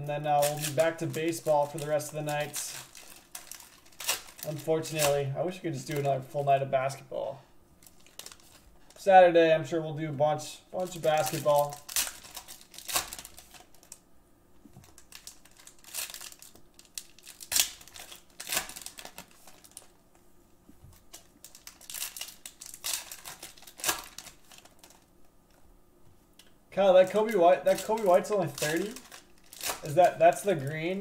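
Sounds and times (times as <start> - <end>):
soft rustling of cards: 0.2 - 7.0, 7.8 - 9.2, 10.8 - 31.0.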